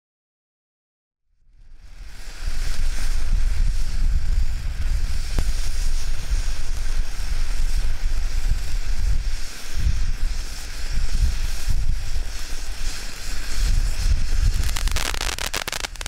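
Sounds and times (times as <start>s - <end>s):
firework fountain hissing: 1.4s - 16.0s.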